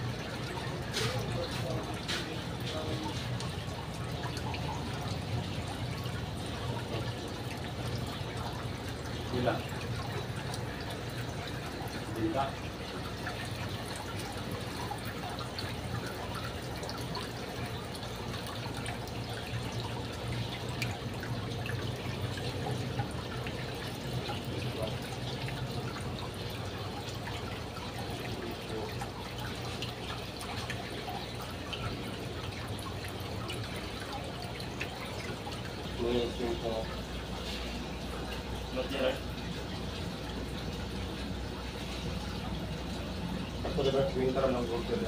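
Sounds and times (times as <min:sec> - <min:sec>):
water trickling and dripping: 0:00.0 - 0:45.0.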